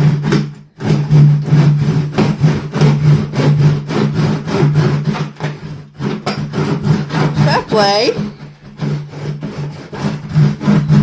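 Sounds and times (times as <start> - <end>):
hand saw cutting wood board: 0.0 - 11.0.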